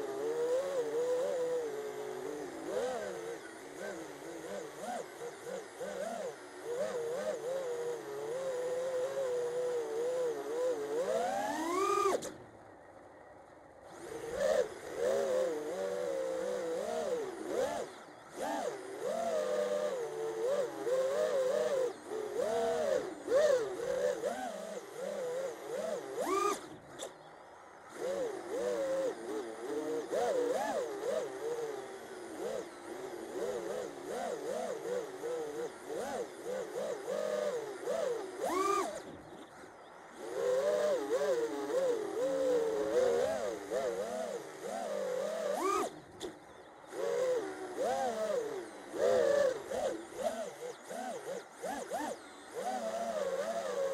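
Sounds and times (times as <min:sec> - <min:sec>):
quadcopter motors buzzing: 0:00.0 - 0:53.9.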